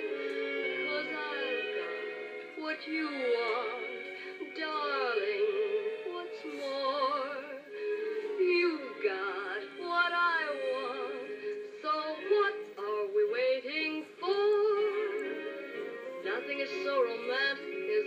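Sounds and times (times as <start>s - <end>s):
musical accompaniment: 0.0s - 18.0s
woman singing with vibrato: 0.0s - 18.0s.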